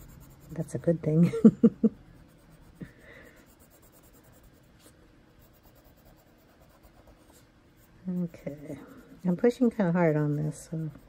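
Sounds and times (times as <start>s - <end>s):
colored pencil scratching on paper: 0.0s - 1.1s, 2.1s - 11.0s.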